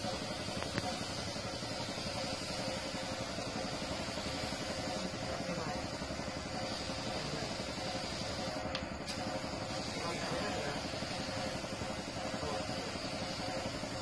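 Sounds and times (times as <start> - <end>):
spray gun hissing: 0.0 - 14.0
steady mechanical drone: 0.0 - 14.0.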